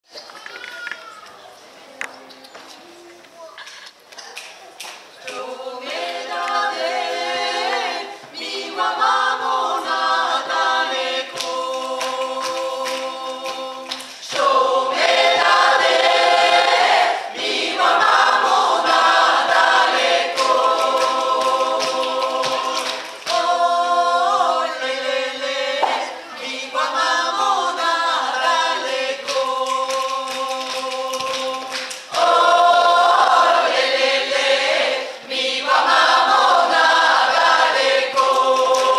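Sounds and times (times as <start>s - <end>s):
mixed choir singing a cappella: 5.2s - 38.9s.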